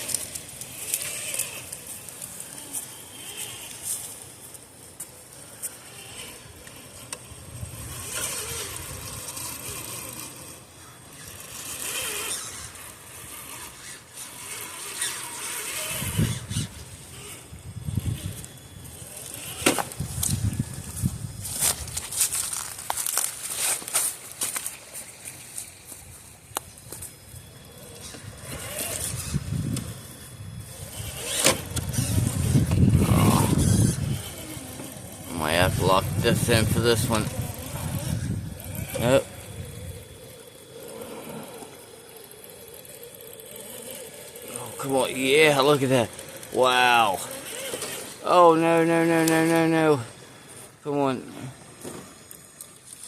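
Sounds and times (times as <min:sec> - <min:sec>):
electric motor whining: 0:00.0 - 0:53.0.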